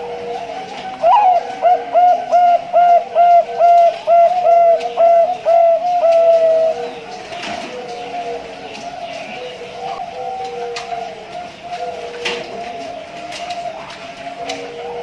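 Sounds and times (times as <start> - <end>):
distant doves cooing: 0.0 - 15.0
dove cooing: 0.0 - 15.0.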